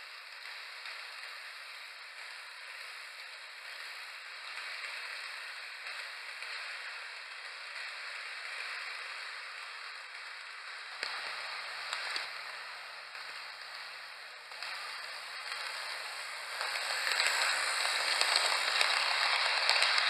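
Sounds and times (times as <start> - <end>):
model train wheels rattling: 0.1 - 20.0.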